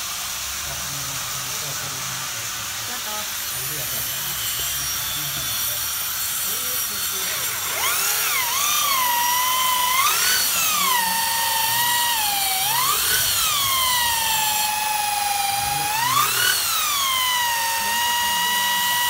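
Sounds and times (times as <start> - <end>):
electric drill boring into wood: 0.0 - 19.0.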